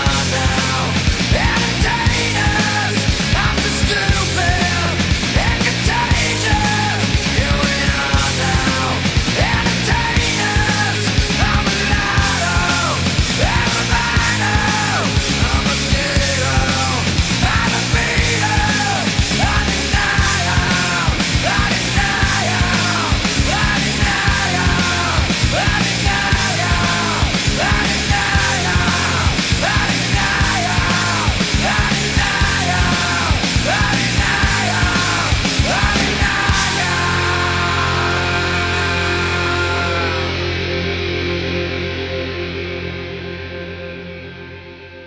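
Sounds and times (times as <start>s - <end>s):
person yelling vocals: 0.0s - 40.3s
heavy rock band playing: 0.0s - 45.0s.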